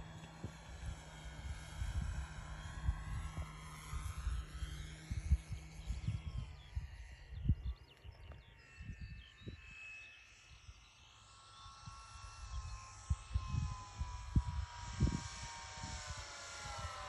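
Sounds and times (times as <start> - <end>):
model plane motor whine: 0.0 - 17.0
wind buffeting microphone: 0.3 - 9.6, 11.8 - 16.9.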